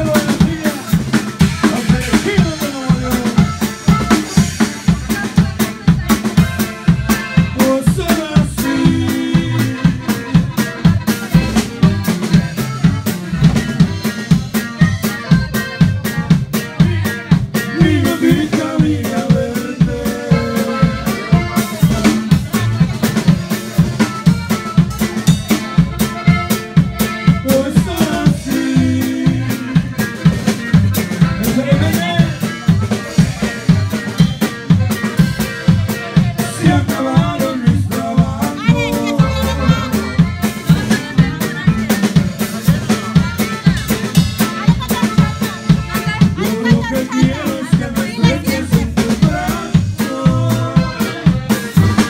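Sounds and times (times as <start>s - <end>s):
drum kit beat: 0.0s - 52.0s
electric bass: 0.0s - 52.0s
live dance band playing: 0.0s - 52.0s.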